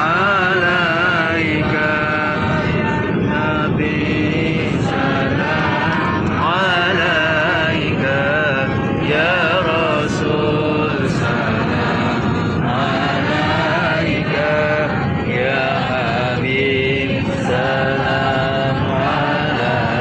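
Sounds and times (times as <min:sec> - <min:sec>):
airliner cabin hum: 0:00.0 - 0:20.0
voices chanting together: 0:00.0 - 0:20.0.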